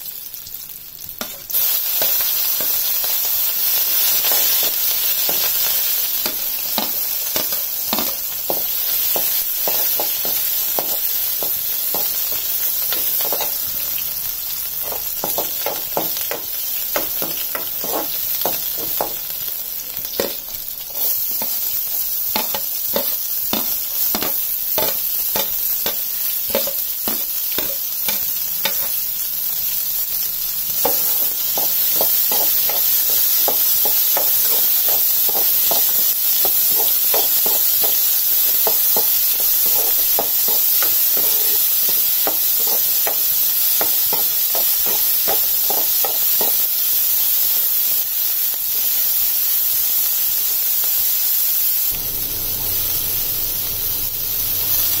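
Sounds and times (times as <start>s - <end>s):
onions sizzling in oil: 0.0s - 55.0s.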